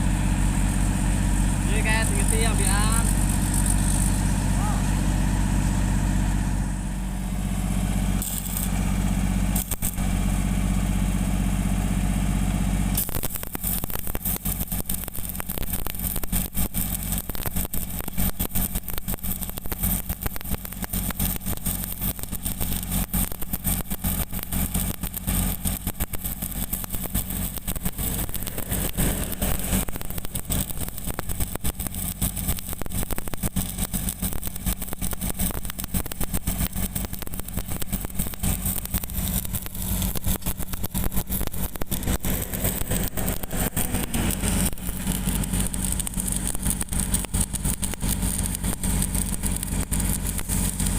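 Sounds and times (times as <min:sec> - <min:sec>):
engine idling: 0:00.0 - 0:50.9
welding arc crackling: 0:00.0 - 0:50.9.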